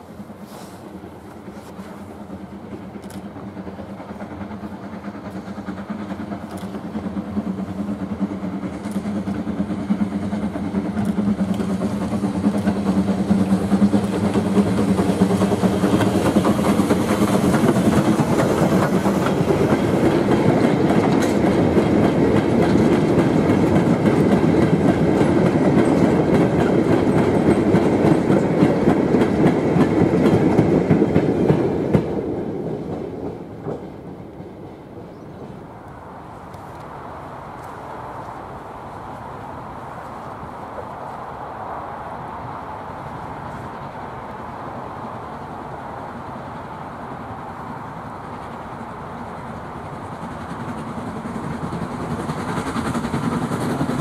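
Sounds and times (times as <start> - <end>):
steam locomotive: 0.0 - 54.0.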